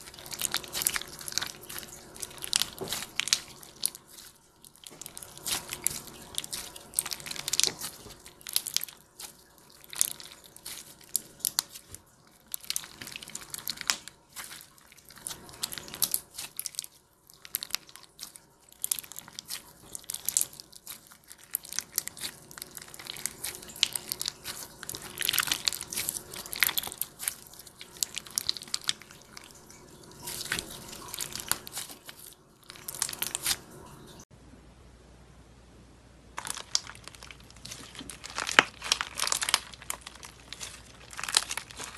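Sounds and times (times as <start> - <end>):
beaded slime crackling: 0.0 - 33.8, 36.4 - 41.9
wet squishing: 0.0 - 34.2, 36.4 - 41.9.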